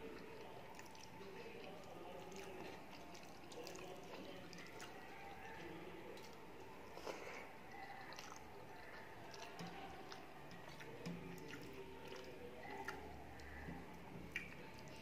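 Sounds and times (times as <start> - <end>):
mouth chewing: 0.0 - 15.0.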